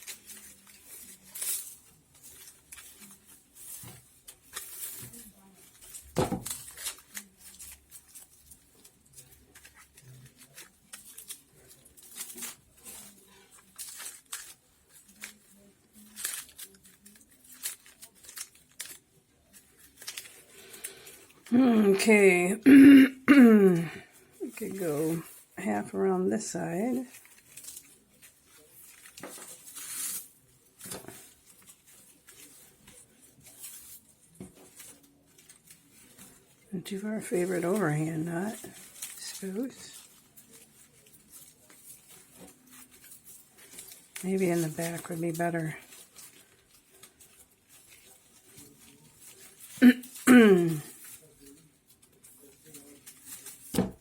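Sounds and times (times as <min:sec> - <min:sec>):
palm frond strips rustling: 0:00.0 - 0:22.5, 0:23.8 - 0:54.0.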